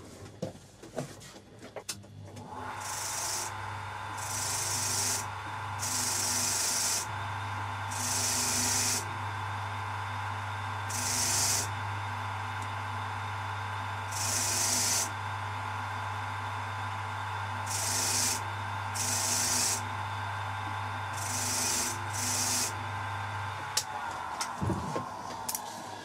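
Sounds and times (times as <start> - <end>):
electric motor spinning wire brush: 2.4 - 25.9.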